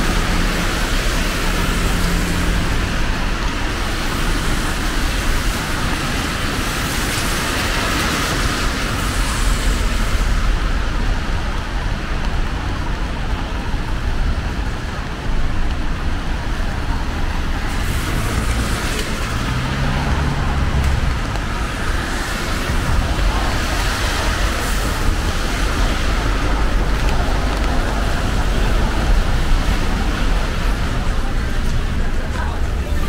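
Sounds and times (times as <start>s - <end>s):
rain: 0.0s - 33.0s
traffic: 0.0s - 33.0s
vehicle passing on wet road: 0.0s - 33.0s.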